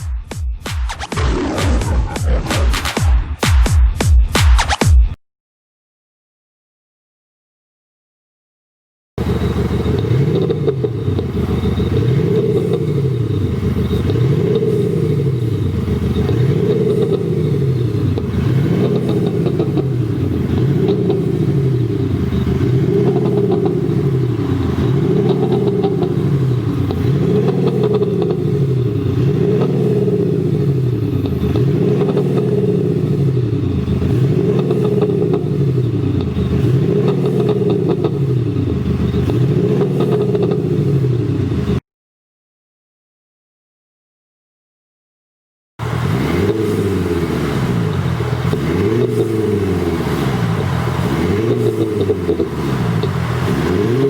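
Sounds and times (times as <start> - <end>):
synthesized engine sound revving: 0.9 - 3.6, 9.2 - 41.8, 45.8 - 54.0.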